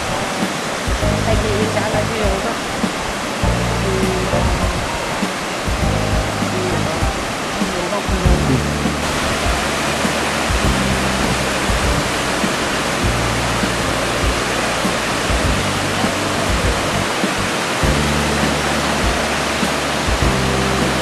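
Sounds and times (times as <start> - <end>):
low background music notes: 0.0 - 21.0
waterfall rushing: 0.0 - 21.0.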